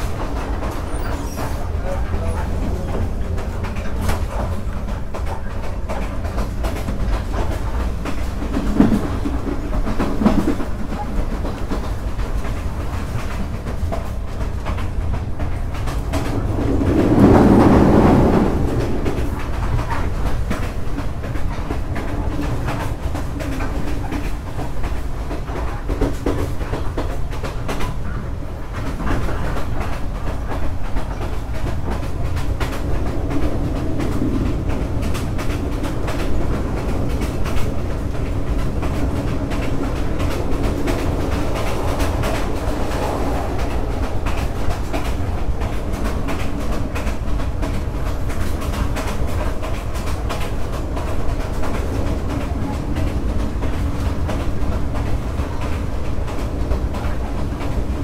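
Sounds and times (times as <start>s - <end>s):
train wheels rumbling on track: 0.0s - 58.0s
wheels clicking and knocking: 0.0s - 58.0s.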